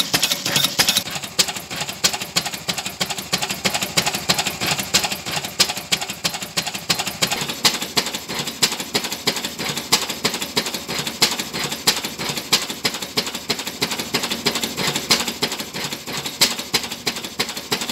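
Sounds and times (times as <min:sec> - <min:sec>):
stationary engine running: 0:00.0 - 0:17.9.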